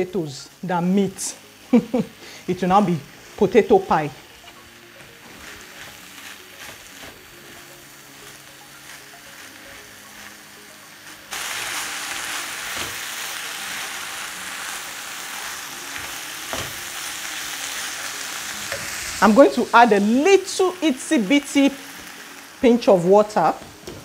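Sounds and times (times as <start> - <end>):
filling sizzling in frying pan: 0.0 - 24.0.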